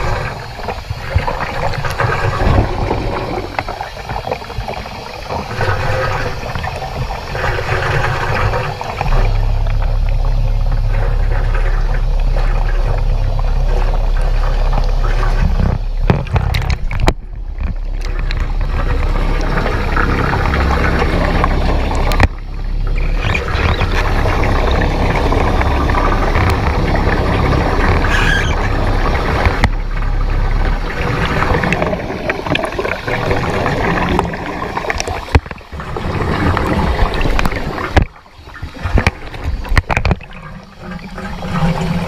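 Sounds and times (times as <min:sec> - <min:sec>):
rushing water: 0:00.0 - 0:42.0
streams of bubbles: 0:00.0 - 0:42.0
submarine motor hum: 0:00.0 - 0:42.0.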